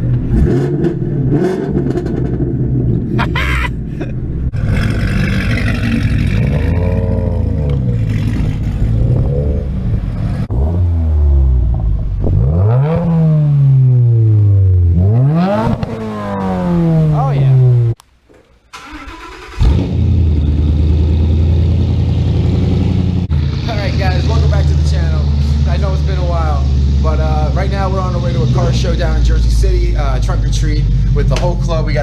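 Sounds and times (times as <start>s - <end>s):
car engine revving: 0.0s - 3.2s, 3.9s - 18.0s, 18.8s - 32.0s.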